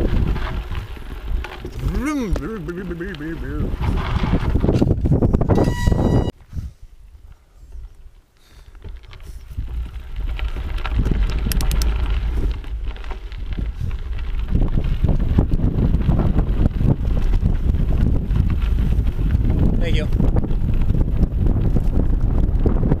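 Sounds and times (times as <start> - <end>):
bike rattles and knocks: 0.0 - 6.4, 7.6 - 23.0
wind buffeting microphone: 0.0 - 8.2, 8.8 - 23.0.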